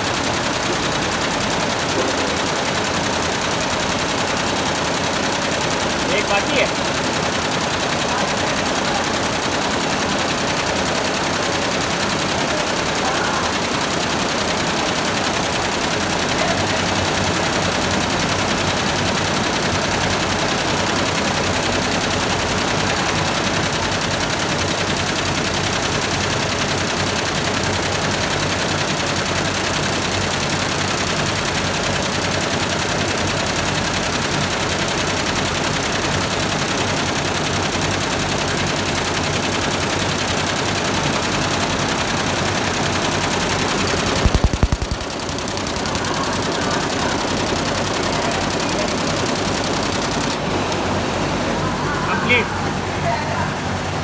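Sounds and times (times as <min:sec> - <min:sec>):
embroidery machine needles clattering: 0:00.0 - 0:50.4.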